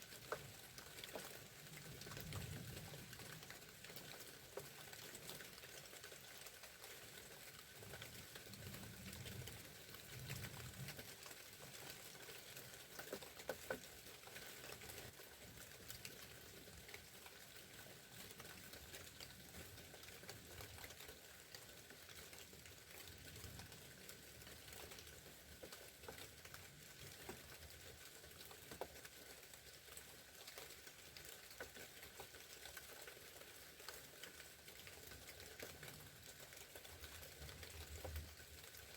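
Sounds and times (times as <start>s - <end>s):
sleet and rain pattering: 0.0s - 38.9s.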